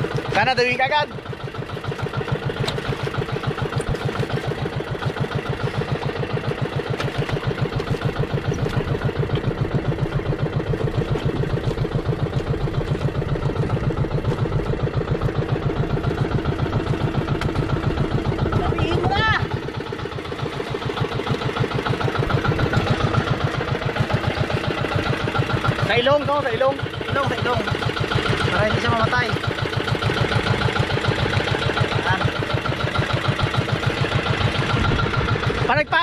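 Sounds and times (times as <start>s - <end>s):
boat engine puttering: 0.0s - 36.0s.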